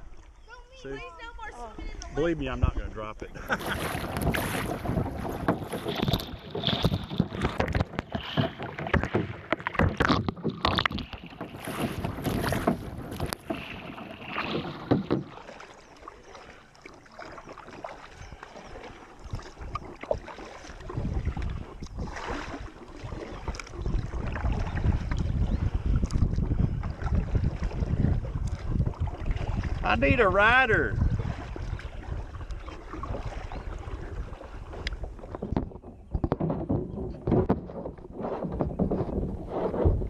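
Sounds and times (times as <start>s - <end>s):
wind buffeting microphone: 0.0s - 15.4s, 18.1s - 40.0s
paddle splashing water: 0.0s - 40.0s.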